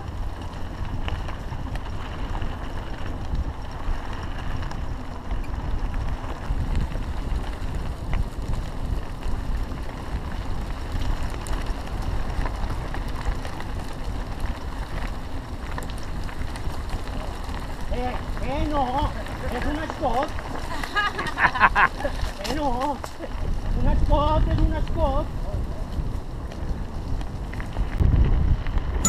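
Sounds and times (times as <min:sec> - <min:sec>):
bike rattling: 0:00.0 - 0:29.0
bike tyres rumbling on gravel: 0:00.0 - 0:29.0
wind buffeting microphone: 0:00.0 - 0:29.0.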